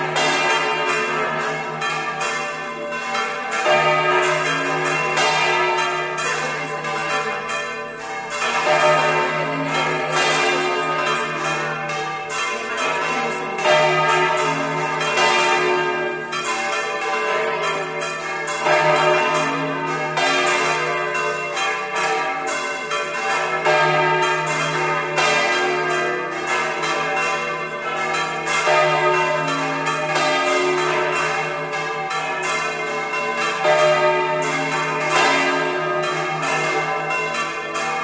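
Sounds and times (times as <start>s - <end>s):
church bells pealing: 0.0s - 38.0s.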